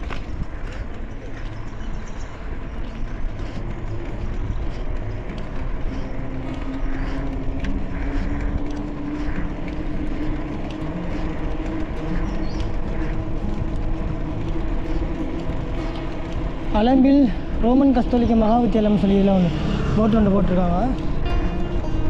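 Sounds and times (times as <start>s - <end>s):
bicycle tyre noise on road: 0.0s - 22.0s
steady low hum: 0.0s - 22.0s.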